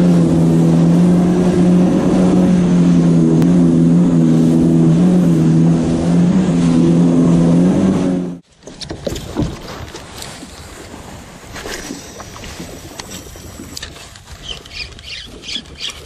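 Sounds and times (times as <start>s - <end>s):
jet ski engine droning: 0.0s - 9.3s, 11.6s - 16.0s.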